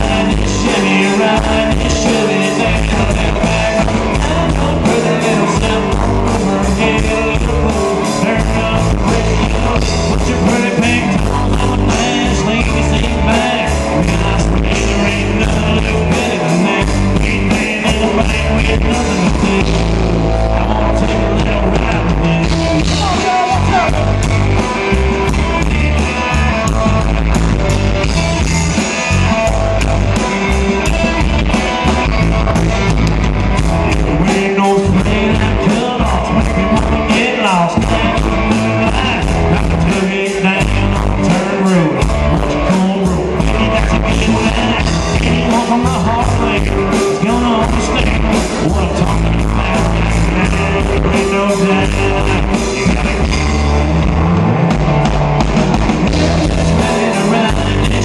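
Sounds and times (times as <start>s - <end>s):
man singing: 0.0s - 27.3s, 33.6s - 53.9s, 56.0s - 58.0s
drums keeping steady beat: 0.0s - 58.0s
electric guitars: 0.0s - 58.0s
pedal steel guitar: 0.0s - 58.0s.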